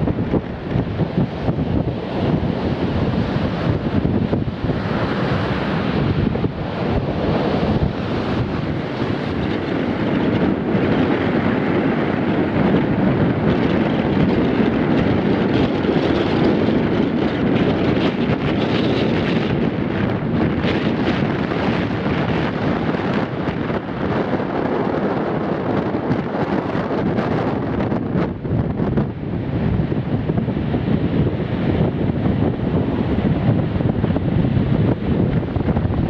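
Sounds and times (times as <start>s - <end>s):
strong wind across microphone: 0.0s - 36.0s.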